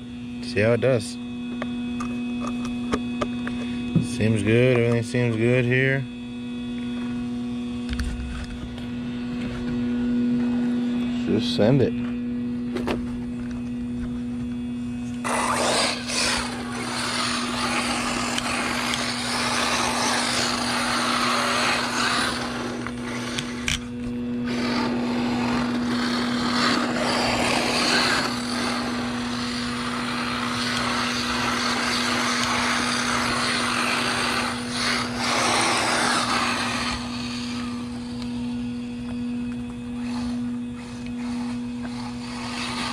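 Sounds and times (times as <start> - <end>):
electric motor whining: 0.0 - 42.9
steady low hum: 0.0 - 42.9.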